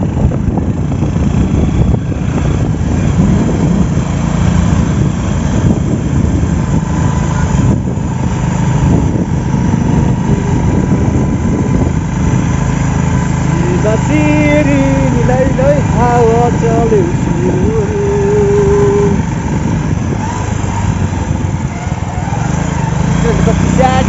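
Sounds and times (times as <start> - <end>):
vehicle engine running: 0.0 - 24.0
wind rumble on microphone: 0.0 - 24.0.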